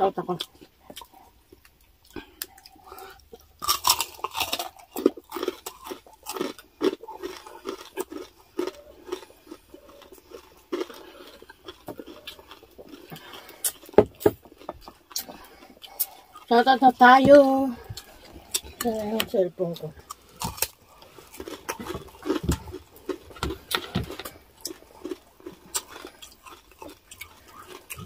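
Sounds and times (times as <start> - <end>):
crunching and chewing crispy food: 0.1 - 28.0.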